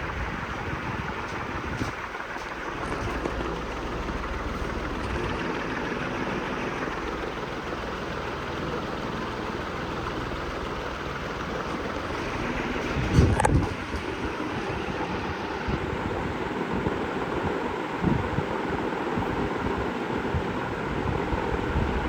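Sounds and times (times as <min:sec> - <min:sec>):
ceiling fan running: 0:00.0 - 0:22.0.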